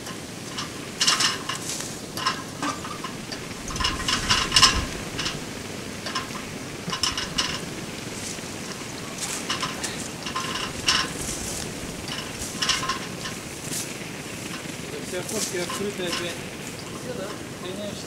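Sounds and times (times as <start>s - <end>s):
clinking and scraping handling noises: 0.0s - 17.4s.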